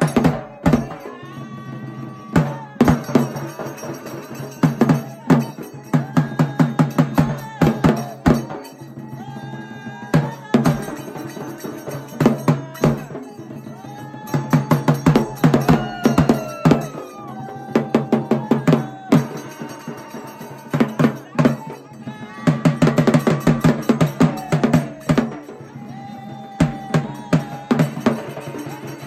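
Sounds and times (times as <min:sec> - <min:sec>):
fast drumming: 0:00.0 - 0:29.0.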